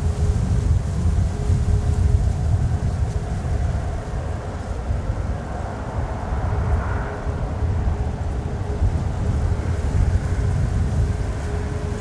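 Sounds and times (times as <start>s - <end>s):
faint steady engine tone: 0.0s - 12.0s.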